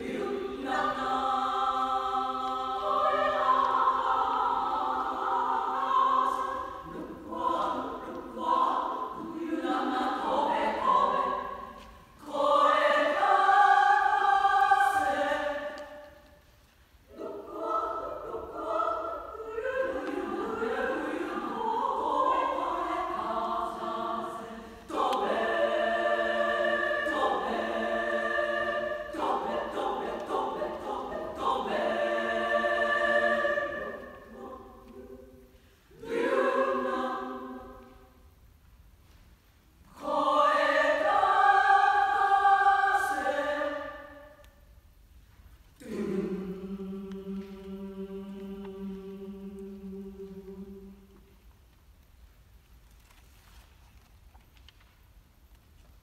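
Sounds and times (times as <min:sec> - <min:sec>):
women's choir singing: 0:00.0 - 0:38.5, 0:39.8 - 0:44.7, 0:45.7 - 0:51.5.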